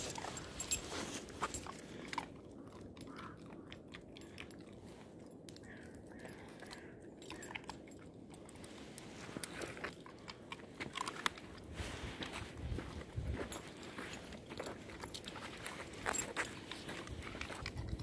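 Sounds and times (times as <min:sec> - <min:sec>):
dog crunching nuts: 0:00.0 - 0:11.7, 0:13.7 - 0:18.0.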